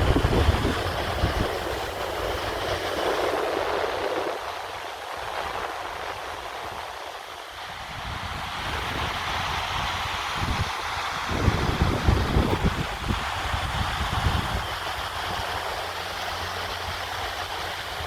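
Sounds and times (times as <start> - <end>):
sea surf washing: 0.0 - 18.0
wind rumble on microphone: 0.0 - 18.0.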